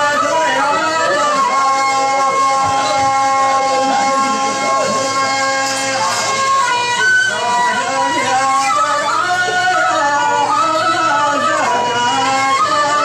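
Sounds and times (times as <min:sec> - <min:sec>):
held accompanying notes: 0:00.0 - 0:13.0
person singing winding melody: 0:00.0 - 0:13.0.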